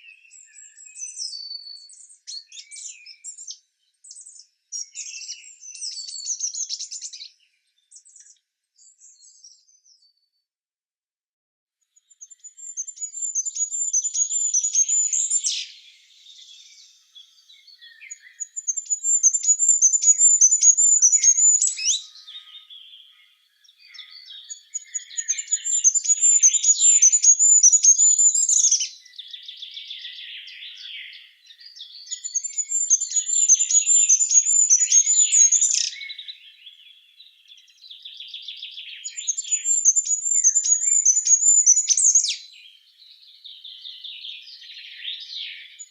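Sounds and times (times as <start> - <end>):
soft bird twittering: 0.0 - 10.1, 12.0 - 45.9.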